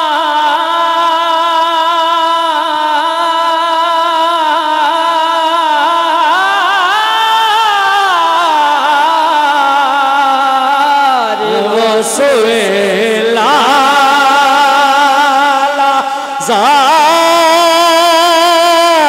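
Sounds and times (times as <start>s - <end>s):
man singing a long ornamented note: 0.0s - 19.0s.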